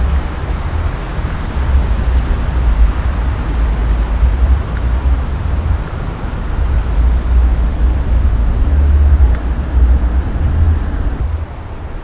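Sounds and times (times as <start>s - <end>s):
steady outdoor hiss: 0.0s - 12.0s
wind buffeting microphone: 0.0s - 12.0s.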